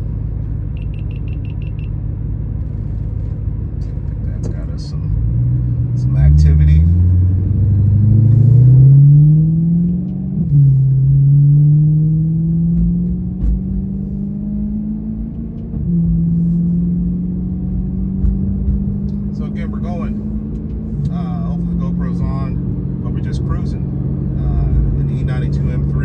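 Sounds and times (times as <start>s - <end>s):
car engine accelerating through gears: 0.0s - 26.0s.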